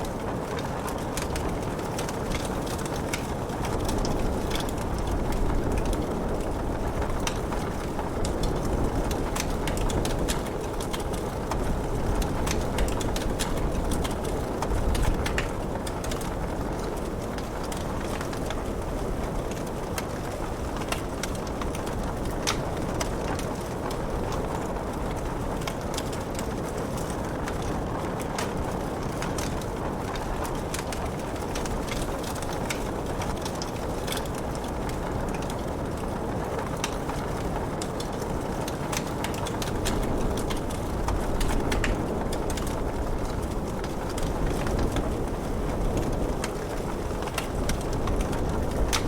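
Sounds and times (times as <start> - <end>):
rain rushing: 0.0 - 49.0
wood fire crackling: 0.0 - 49.0.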